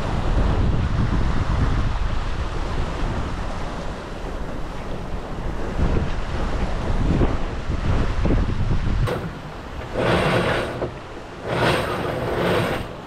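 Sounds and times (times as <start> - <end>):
waves and rushing water: 0.0 - 13.0
wind rumbling on microphone: 0.0 - 13.0.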